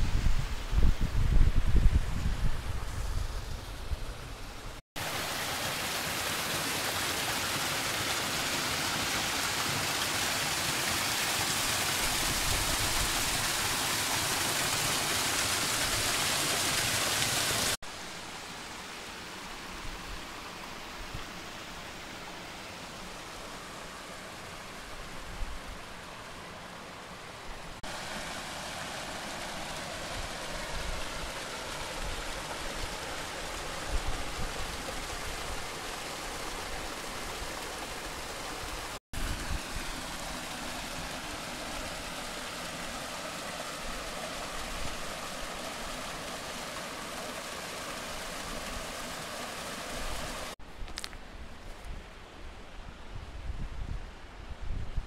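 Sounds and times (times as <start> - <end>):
stream and waterfall rushing: 0.0 - 54.5.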